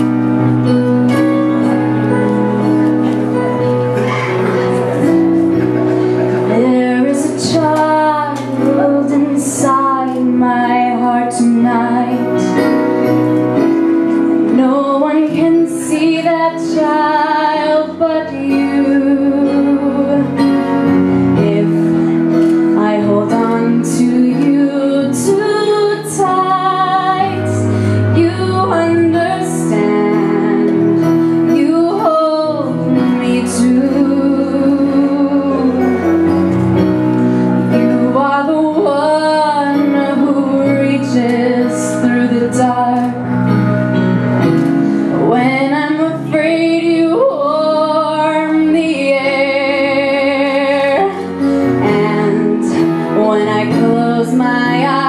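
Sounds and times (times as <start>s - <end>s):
woman singing into microphone: 6.4s - 12.9s, 14.3s - 44.0s, 45.0s - 55.0s.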